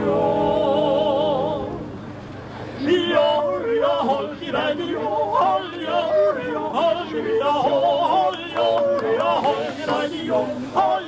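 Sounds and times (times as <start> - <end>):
traditional singing voices: 0.0 - 2.1, 2.7 - 11.0.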